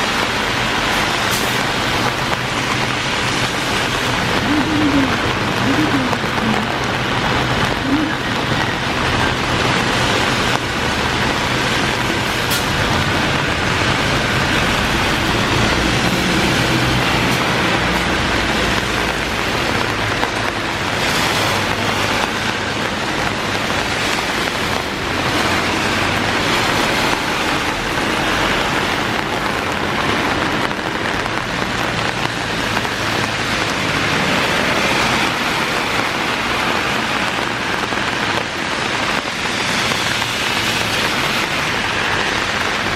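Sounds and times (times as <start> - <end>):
car passing on wet road: 0.0 - 42.9
heavy rain: 0.0 - 42.9.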